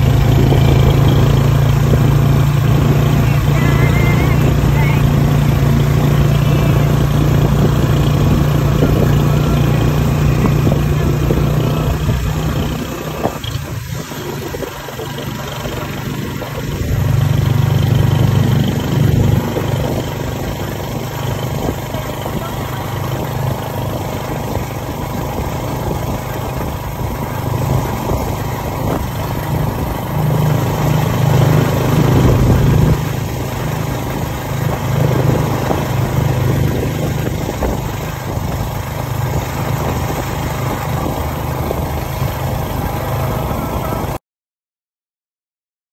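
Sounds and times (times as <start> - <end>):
vehicle engine hum: 0.0 - 44.2
wind and tyre noise: 0.0 - 44.2.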